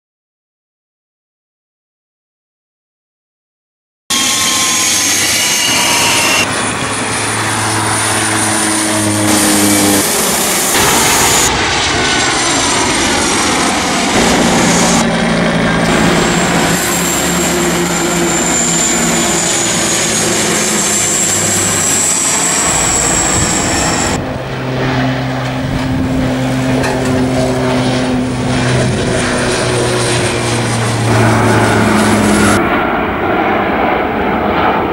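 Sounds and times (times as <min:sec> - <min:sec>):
high engine whine: 0:04.1 - 0:34.9
propeller planes flying overhead: 0:04.1 - 0:34.9.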